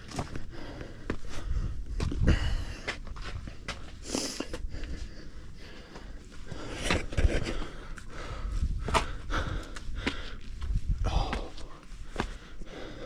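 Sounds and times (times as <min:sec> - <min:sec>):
footsteps and scuffs on rock: 0:00.0 - 0:04.7, 0:05.8 - 0:12.6
heavy breathing: 0:00.0 - 0:13.0.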